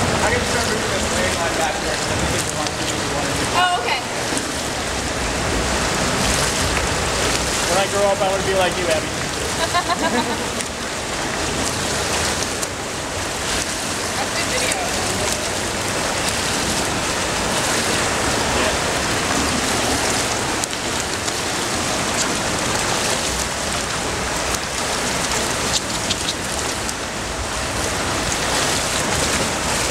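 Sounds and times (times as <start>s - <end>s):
pool water splashing: 0.0s - 29.9s.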